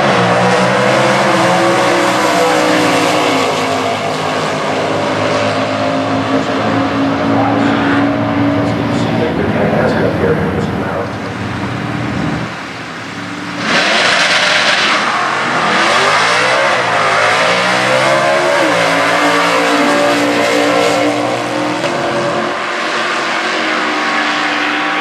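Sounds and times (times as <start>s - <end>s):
drag racing car engine: 0.0s - 25.0s.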